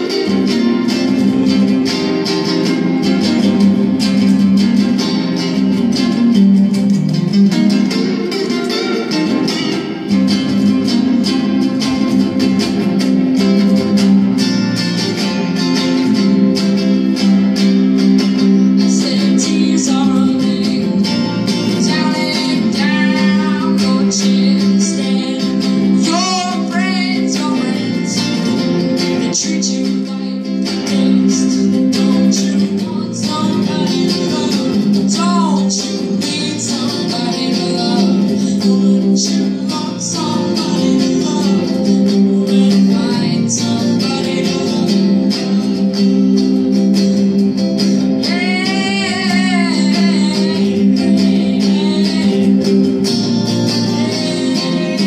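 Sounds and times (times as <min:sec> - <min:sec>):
electric guitar through amplifier: 0:00.0 - 0:55.0.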